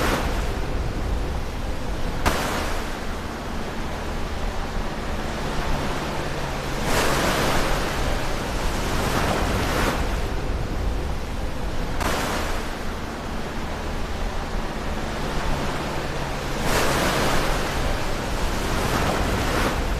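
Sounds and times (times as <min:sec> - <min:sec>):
low rumble of sea: 0:00.0 - 0:19.9
waves breaking: 0:00.0 - 0:19.9.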